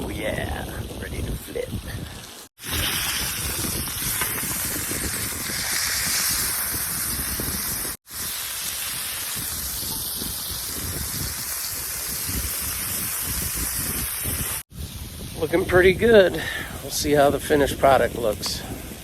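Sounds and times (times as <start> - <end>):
wind rumble on microphone: 0.0 - 19.0
burgers sizzling in a pan: 2.2 - 18.6.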